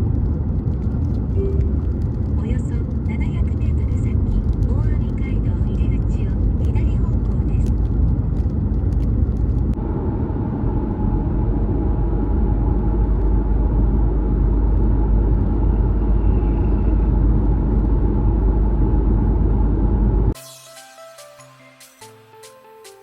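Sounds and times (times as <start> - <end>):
tyre road noise rumble: 0.0 - 20.4.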